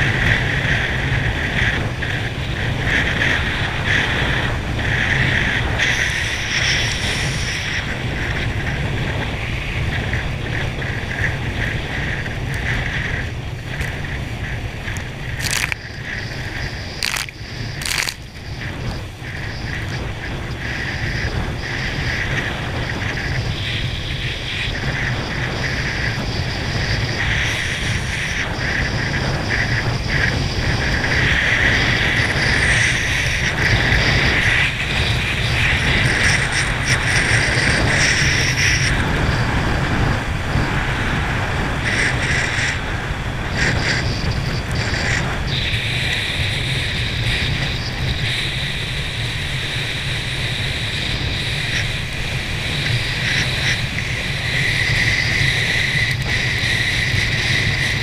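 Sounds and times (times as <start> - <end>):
water rushing under a ski: 0.0 - 58.0
wind buffeting microphone: 0.0 - 58.0.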